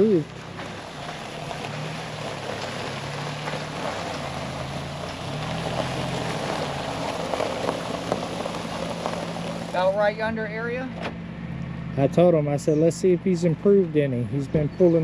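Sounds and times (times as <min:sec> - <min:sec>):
vehicle engine running slowly: 0:00.0 - 0:15.0.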